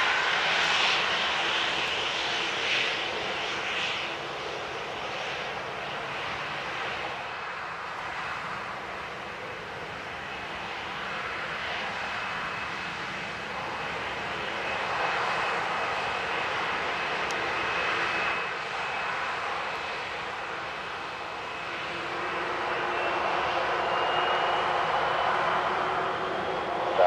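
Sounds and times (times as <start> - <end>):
jet engines roaring with whine: 0.0 - 27.0.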